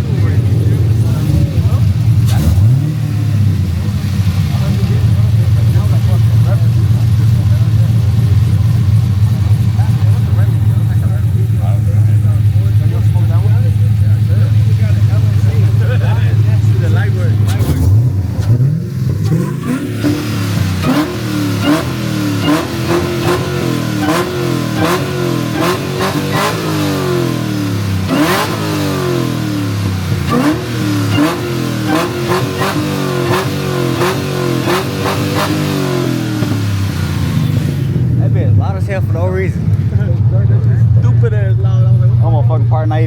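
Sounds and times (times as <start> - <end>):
car engine revving: 0.0 - 43.0
sharp exhaust cracks: 0.0 - 43.0.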